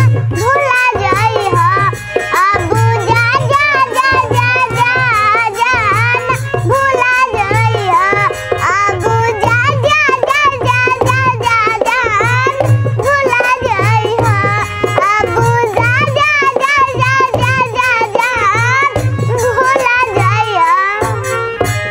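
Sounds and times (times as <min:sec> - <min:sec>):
backing music with low drum beat: 0:00.0 - 0:21.9
girl singing: 0:00.0 - 0:21.9.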